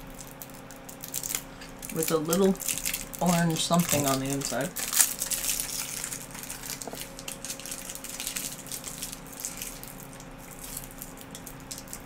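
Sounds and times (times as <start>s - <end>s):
low room hum: 0.0s - 12.0s
soft candy being chewed: 0.0s - 12.0s.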